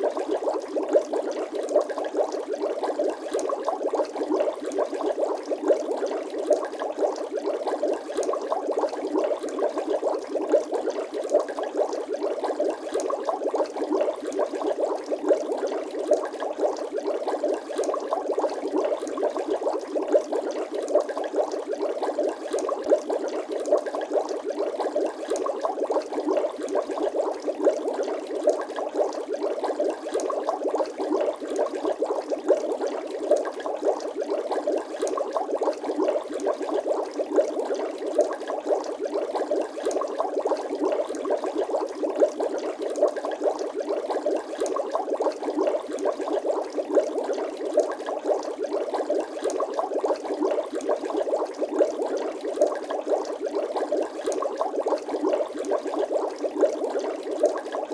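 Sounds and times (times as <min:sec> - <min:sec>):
water bubbling: 0:00.0 - 0:57.9.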